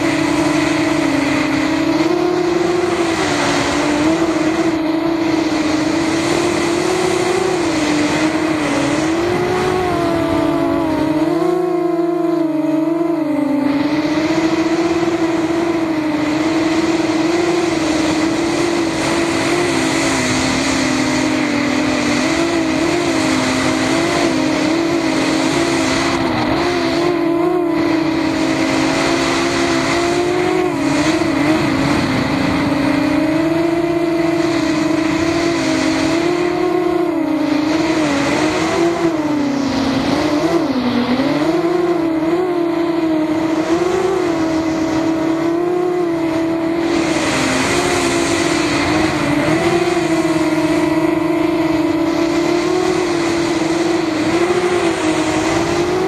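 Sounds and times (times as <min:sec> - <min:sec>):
drone motors and propellers whining: 0:00.0 - 0:56.0.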